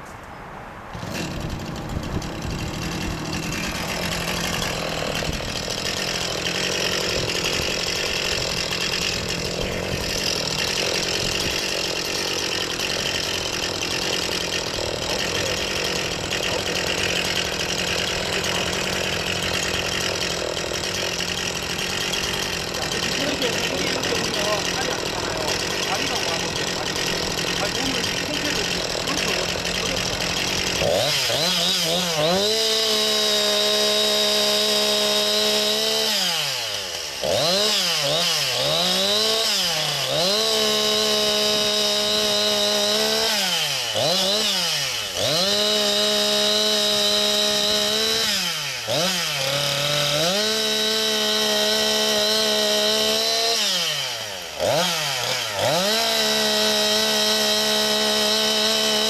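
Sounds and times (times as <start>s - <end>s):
chainsaw engine revving: 0.9s - 59.0s.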